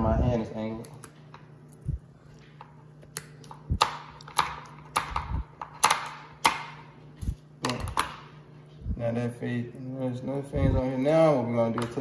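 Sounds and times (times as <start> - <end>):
low hum: 0.0 - 5.7, 6.8 - 11.1.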